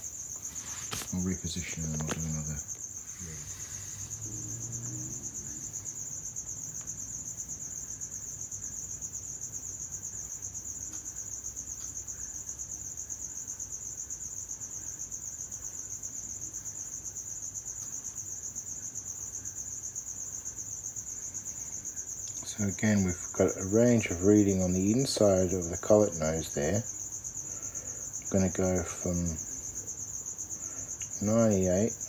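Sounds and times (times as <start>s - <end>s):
insect high-pitched trill: 0.0s - 32.0s.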